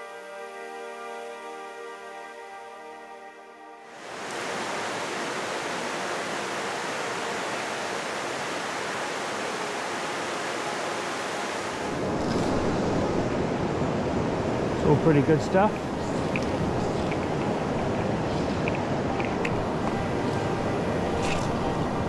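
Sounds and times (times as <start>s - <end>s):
river water flowing over stones: 3.9s - 22.0s.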